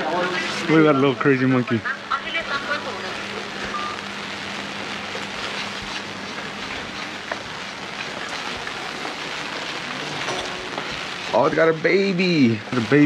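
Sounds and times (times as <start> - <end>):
light rain on stone paving: 2.5 - 13.0.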